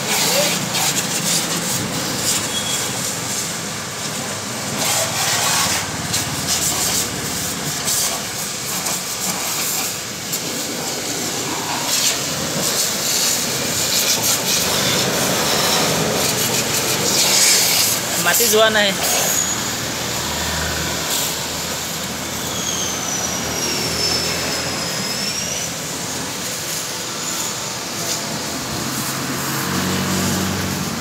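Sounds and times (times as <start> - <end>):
water jet hissing: 0.0 - 31.0.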